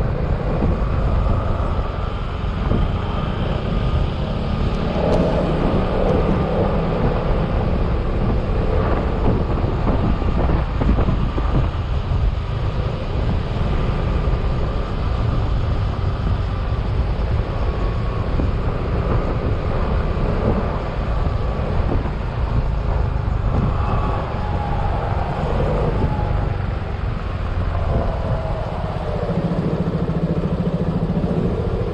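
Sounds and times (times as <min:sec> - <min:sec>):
road noise: 0:00.0 - 0:31.9
wind noise: 0:00.0 - 0:31.9.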